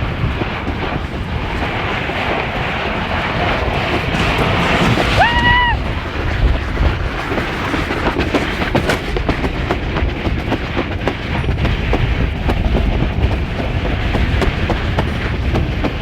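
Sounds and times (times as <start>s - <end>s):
sled rattling down track: 0.0s - 16.0s.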